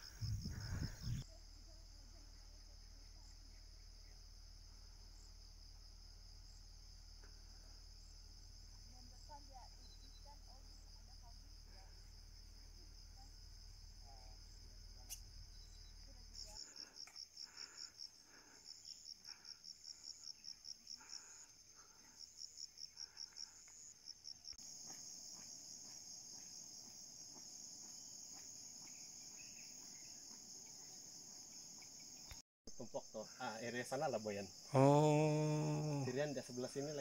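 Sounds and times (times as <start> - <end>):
insect trill: 0.0 - 37.0.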